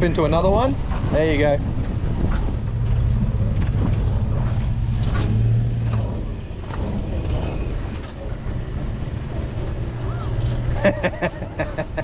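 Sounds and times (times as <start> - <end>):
engine running at low revs: 0.2 - 12.0.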